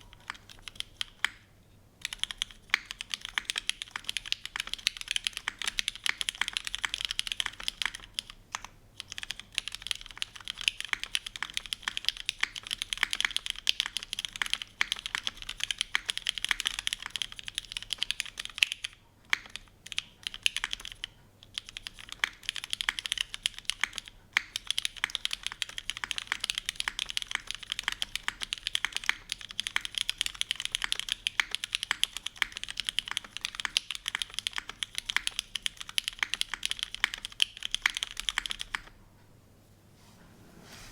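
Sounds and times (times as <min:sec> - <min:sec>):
mechanical keyboard typing: 0:00.0 - 0:39.0.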